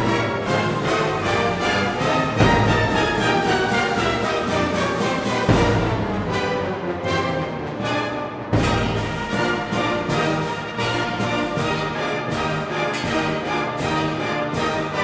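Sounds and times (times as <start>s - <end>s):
orchestral music: 0.0s - 15.0s.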